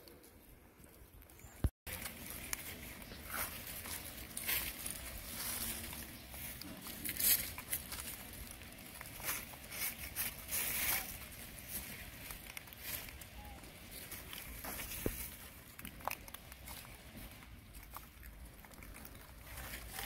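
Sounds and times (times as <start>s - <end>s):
dry leaves rustling and crackling: 1.3s - 20.0s.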